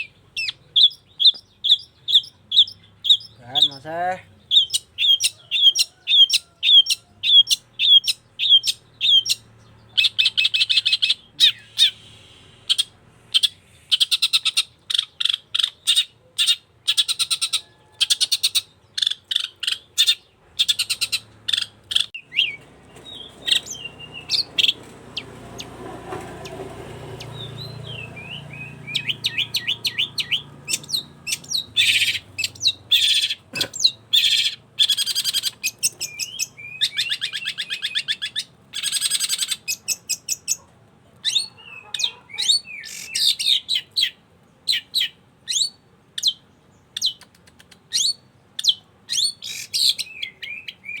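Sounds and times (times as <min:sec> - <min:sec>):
bird chirping and trilling: 0:00.0 - 0:51.0
low background noise: 0:00.0 - 0:51.0.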